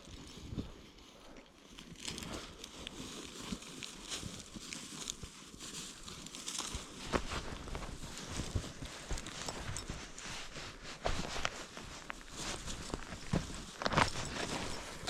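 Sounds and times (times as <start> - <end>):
crunching footsteps in snow: 0.0 - 15.0.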